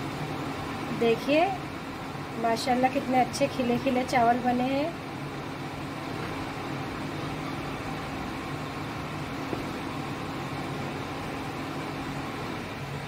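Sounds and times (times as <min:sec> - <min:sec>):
fan-like mechanical hum: 0:00.0 - 0:13.0.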